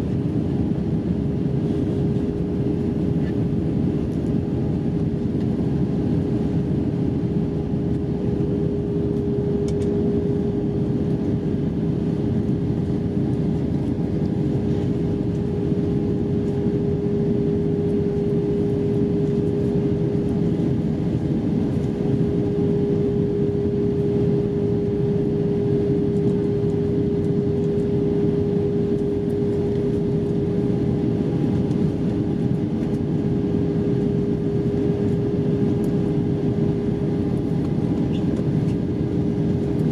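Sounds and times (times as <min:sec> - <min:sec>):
engine and airflow rush: 0:00.0 - 0:39.9
steady hum-like tone: 0:00.0 - 0:39.9.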